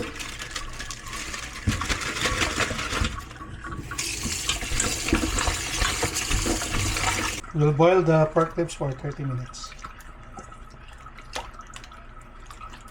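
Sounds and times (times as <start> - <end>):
water running from tap: 0.0 - 12.9.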